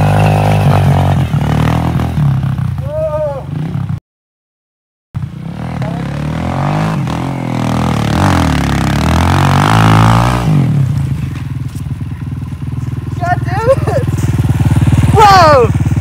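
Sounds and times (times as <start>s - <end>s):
dirt bike engine revving: 0.0s - 4.0s, 5.2s - 16.0s.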